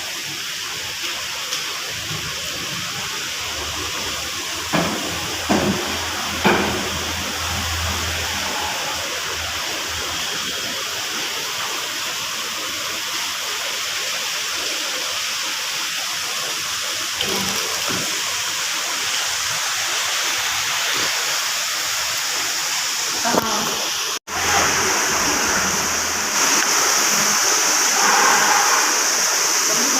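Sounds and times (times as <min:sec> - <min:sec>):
heavy rain: 0:00.0 - 0:29.9.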